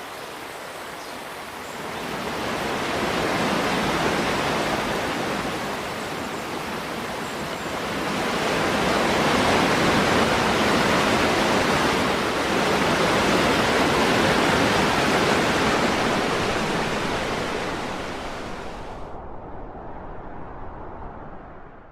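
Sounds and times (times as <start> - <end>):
rushing river water: 0.0 - 19.1.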